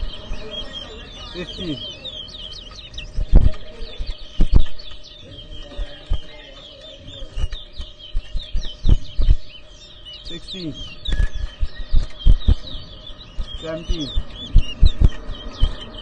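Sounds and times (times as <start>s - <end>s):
finch singing high chirps: 0.0s - 16.0s.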